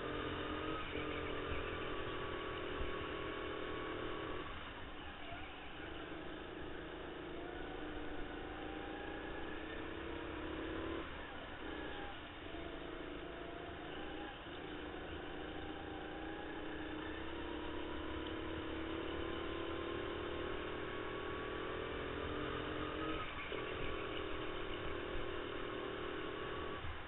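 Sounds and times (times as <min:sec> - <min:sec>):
go-kart engine running: 0:00.0 - 0:27.0.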